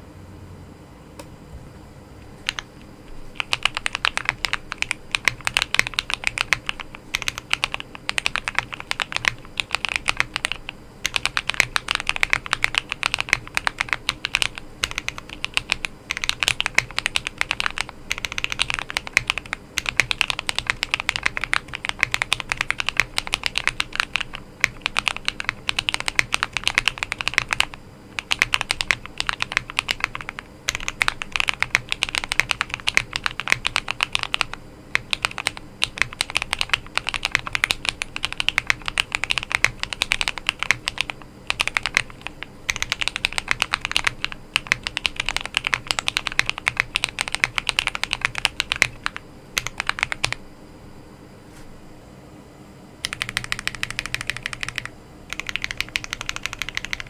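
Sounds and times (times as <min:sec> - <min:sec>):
mechanical keyboard typing: 0:02.4 - 0:50.4, 0:53.0 - 0:57.0.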